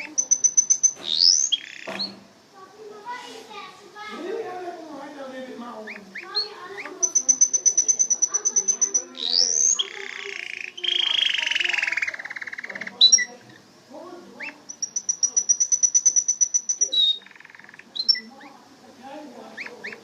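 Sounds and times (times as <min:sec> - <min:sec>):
canary singing: 0:00.0 - 0:02.5, 0:04.1 - 0:20.0.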